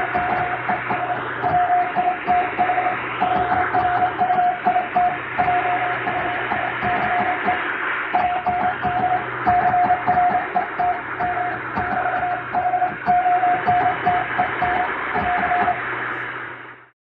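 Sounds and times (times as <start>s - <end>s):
morse code beeping: 0.0s - 7.6s, 8.2s - 15.8s
shortwave hiss and static: 0.0s - 16.9s.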